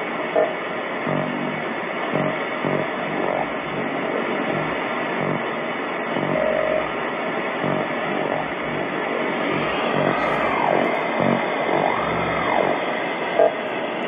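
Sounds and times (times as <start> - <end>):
faint low buzzy pulses: 0.0 - 14.0
radio hiss with raspy signal: 0.0 - 14.0.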